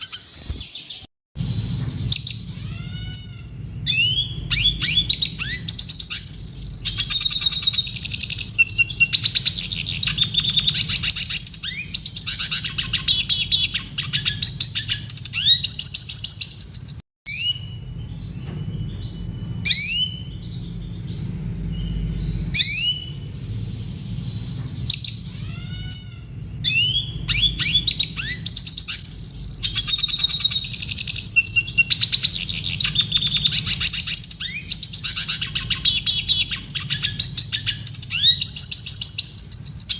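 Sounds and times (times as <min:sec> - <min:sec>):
bird twittering song: 0:00.0 - 0:39.9
low steady hum: 0:01.4 - 0:16.2, 0:17.3 - 0:39.9.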